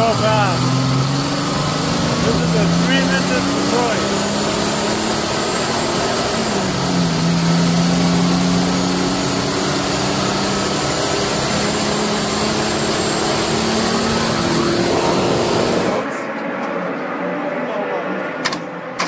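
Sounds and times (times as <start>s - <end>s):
engine pulling from inside cab: 0.0s - 17.1s
road and wind noise: 0.0s - 19.0s.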